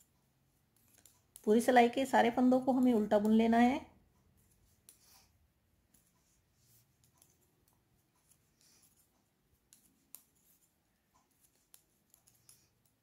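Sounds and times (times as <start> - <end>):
knitting needles clicking: 0.0 - 13.0.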